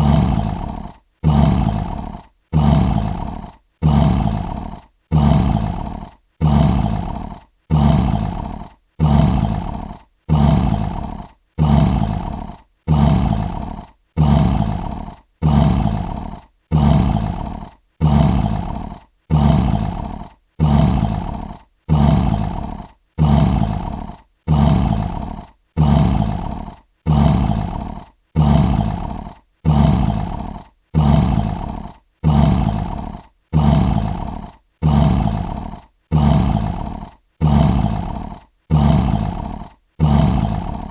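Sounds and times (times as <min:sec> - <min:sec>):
lion roar: 0:00.0 - 0:40.9.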